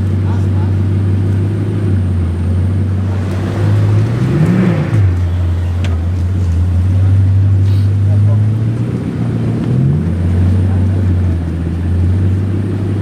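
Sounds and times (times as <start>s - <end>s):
car engine idling with throttle blip: 0.0s - 13.0s.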